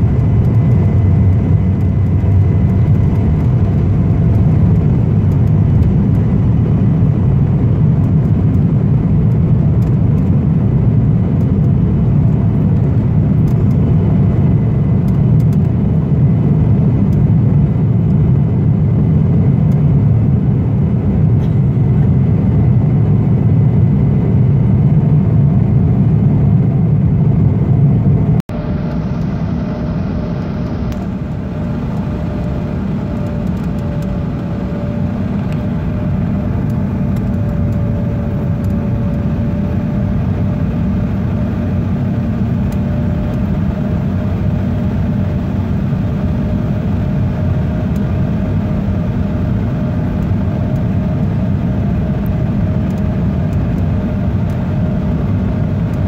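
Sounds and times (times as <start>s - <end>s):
cabin drone: 0.0s - 56.0s
jet engines rumbling: 0.0s - 56.0s.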